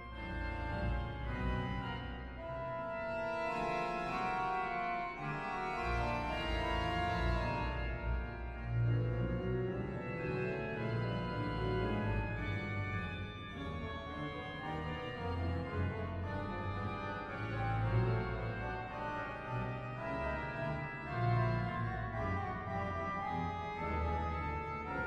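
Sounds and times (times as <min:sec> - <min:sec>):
organ music: 0:00.0 - 0:25.0.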